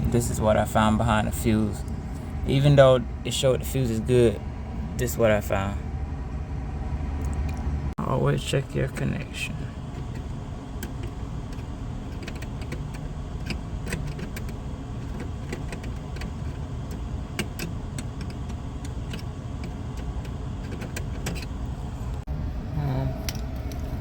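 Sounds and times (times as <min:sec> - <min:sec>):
hvac equipment humming: 0:00.0 - 0:24.0.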